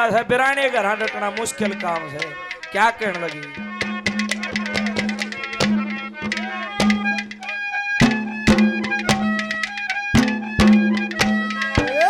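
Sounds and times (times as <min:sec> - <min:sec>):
clay pot drums: 0:00.0 - 0:12.0
reedy melody line: 0:00.0 - 0:12.0.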